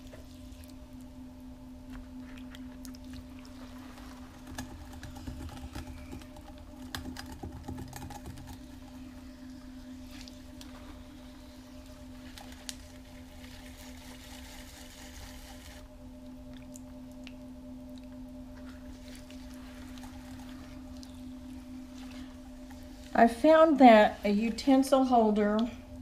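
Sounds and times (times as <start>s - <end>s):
pottery wheel motor humming: 0.0s - 26.0s.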